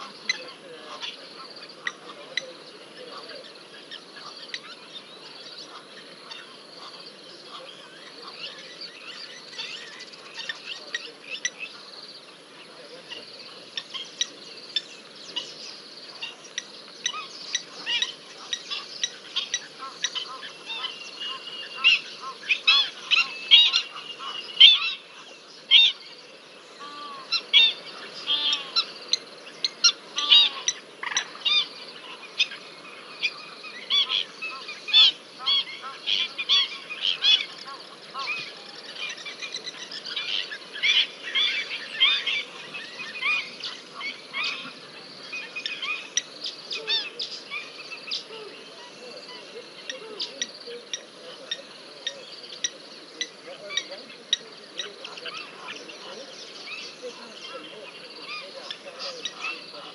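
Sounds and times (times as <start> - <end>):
wild dogs twittering calls: 0.0 - 59.9.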